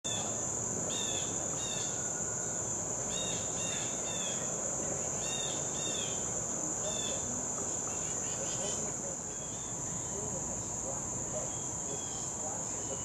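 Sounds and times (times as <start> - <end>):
insect chorus drone: 0.1 - 13.0.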